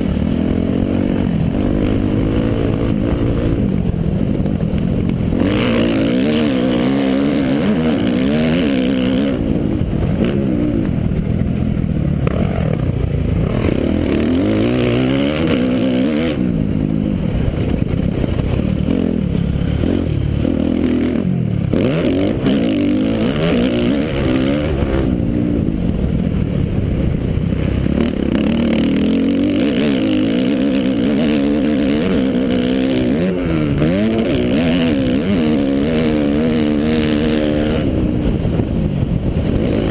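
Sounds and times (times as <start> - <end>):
dirt bike engine revving: 0.0 - 26.5, 27.2 - 39.9.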